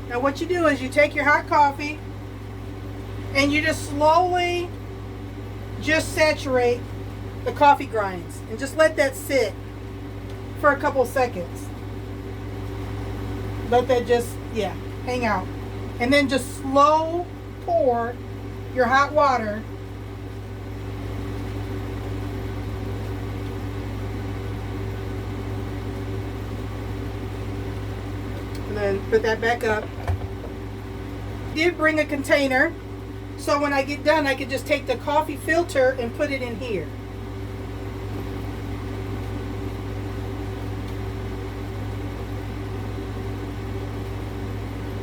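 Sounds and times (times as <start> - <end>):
air conditioner humming: 0.0 - 45.0.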